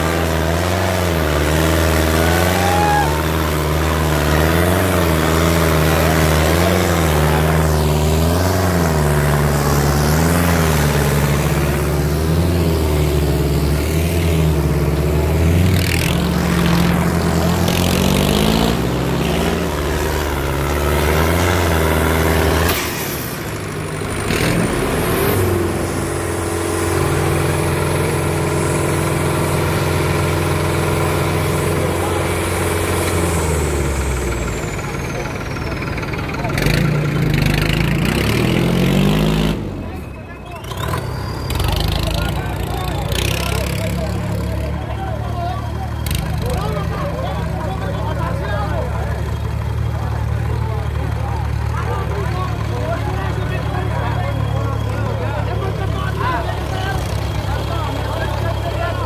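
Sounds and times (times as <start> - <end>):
tractor diesel engine surging: 0.0 - 59.0.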